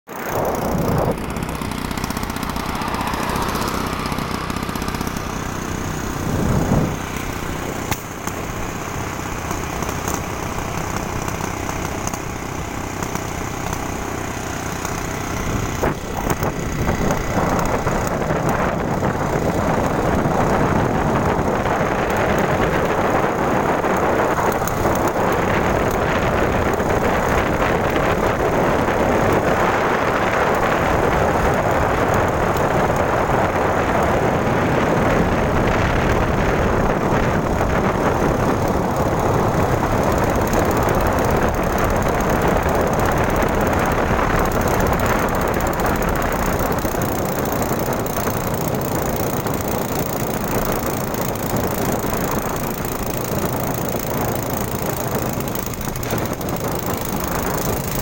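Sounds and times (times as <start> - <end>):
engine running: 0.1 - 58.0.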